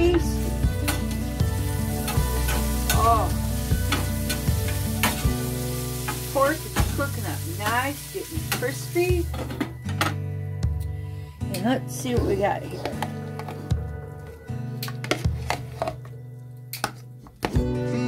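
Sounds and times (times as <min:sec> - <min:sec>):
background music with bass: 0:00.0 - 0:18.0.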